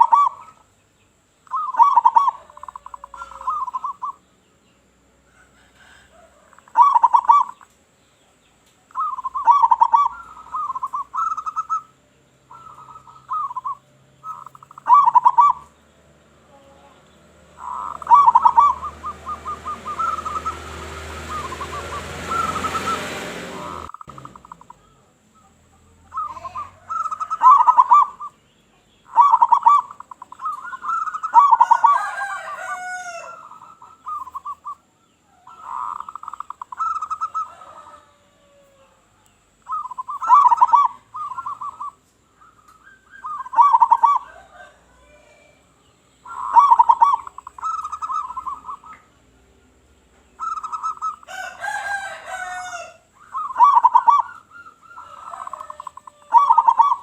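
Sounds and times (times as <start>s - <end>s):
dove cooing: 0.0s - 0.7s, 1.4s - 4.2s, 5.2s - 7.7s, 8.8s - 15.8s, 16.4s - 28.4s, 29.0s - 49.2s, 50.3s - 57.0s
high bird chirping: 0.0s - 4.8s, 5.8s - 57.0s.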